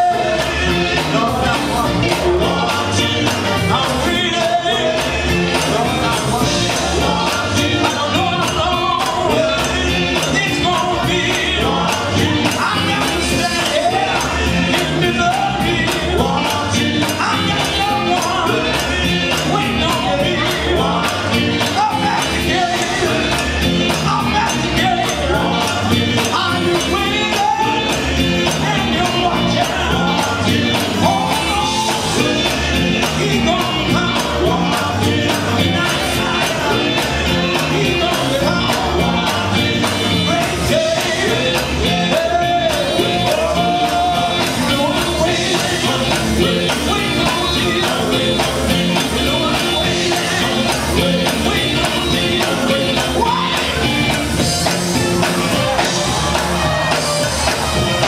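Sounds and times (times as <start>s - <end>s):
bass guitar: 0.0s - 58.0s
drum kit beat: 0.0s - 58.0s
electric guitar: 0.0s - 58.0s
gospel quartet singing: 0.0s - 58.0s.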